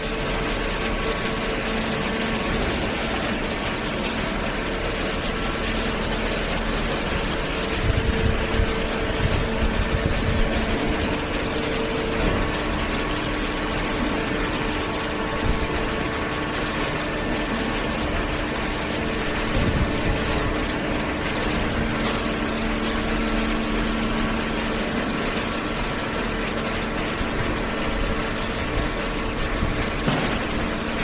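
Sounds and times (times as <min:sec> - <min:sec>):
cardboard baler humming: 0:00.0 - 0:31.0
feed conveyor running: 0:00.0 - 0:31.0.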